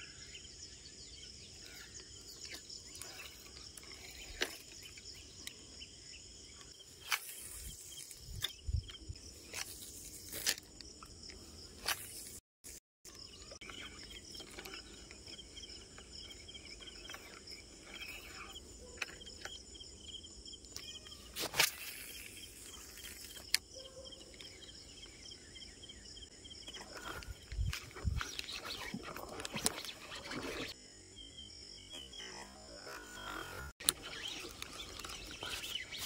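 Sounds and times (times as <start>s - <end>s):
insects buzzing and chirping: 0.0s - 36.0s.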